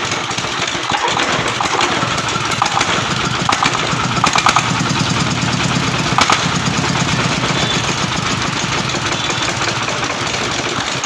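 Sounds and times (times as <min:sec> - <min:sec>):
diesel engine pulsing: 0:00.0 - 0:11.0.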